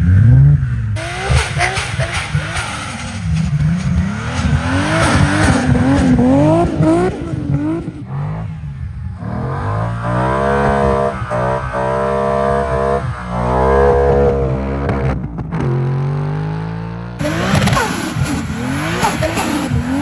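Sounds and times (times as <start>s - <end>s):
car engine revving hard: 0.0s - 20.0s.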